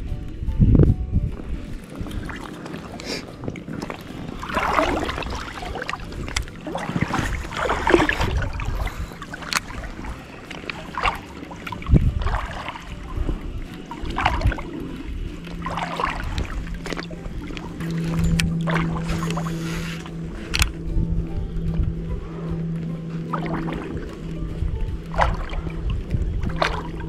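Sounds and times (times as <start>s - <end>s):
water sloshing against float tube: 1.3s - 27.0s.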